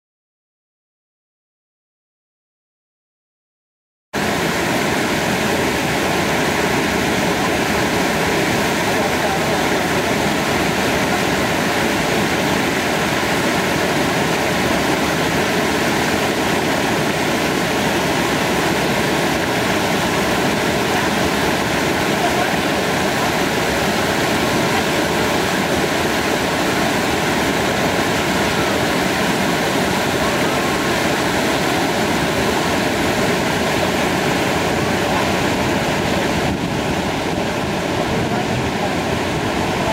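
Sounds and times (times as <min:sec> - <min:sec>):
waterfall rushing: 0:04.2 - 0:39.9.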